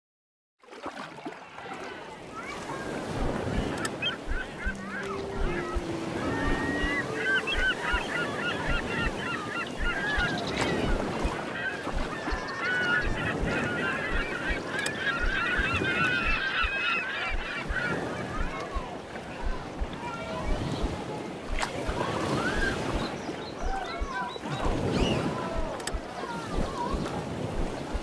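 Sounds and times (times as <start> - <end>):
surf: 0.6 - 28.0
wind: 0.6 - 28.0
birds calling and chattering: 2.3 - 28.0.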